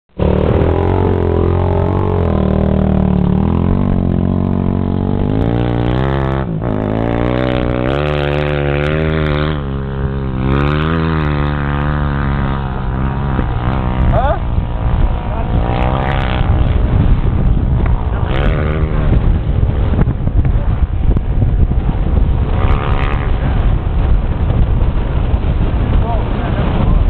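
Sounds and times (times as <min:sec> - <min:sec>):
atv engine revving: 0:00.2 - 0:27.0.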